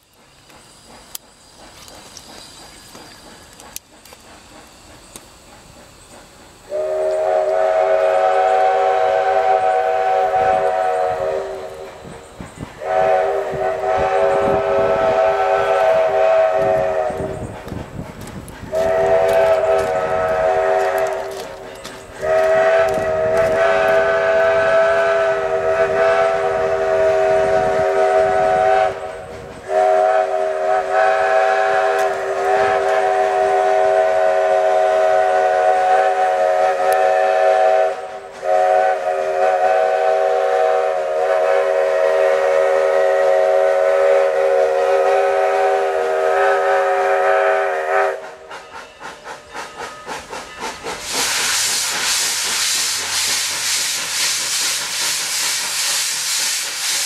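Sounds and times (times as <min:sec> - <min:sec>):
steam locomotive whistle blasts: 0:06.7 - 0:12.2, 0:12.8 - 0:17.5, 0:18.7 - 0:57.0.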